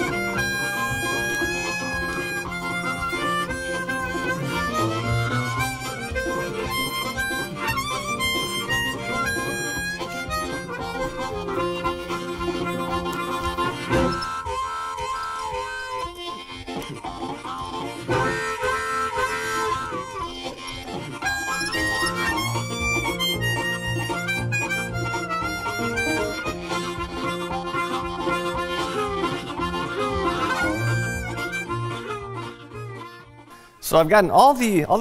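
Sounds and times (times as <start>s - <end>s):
harmonica melody: 0.0s - 34.1s.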